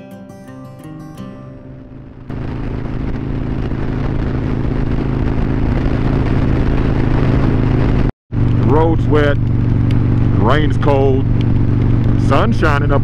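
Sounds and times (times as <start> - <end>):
motorcycle engine at speed: 1.9 - 13.0
wind noise: 2.0 - 13.0.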